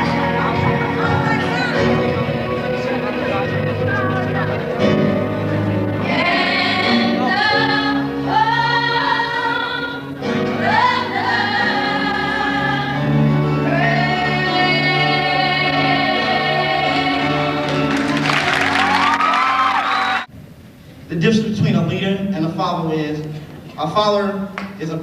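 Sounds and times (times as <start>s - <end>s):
gospel choir singing: 0.0s - 20.3s.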